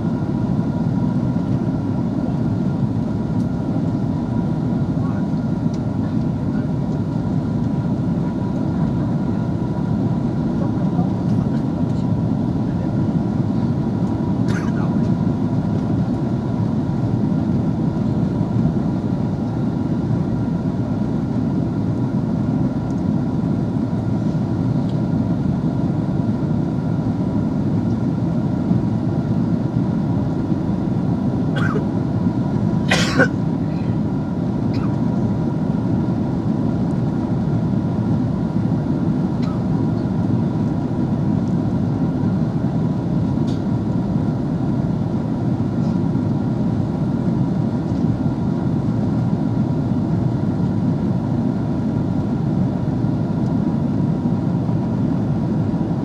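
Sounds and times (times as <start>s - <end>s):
airplane cabin engine rush: 0.0s - 56.0s.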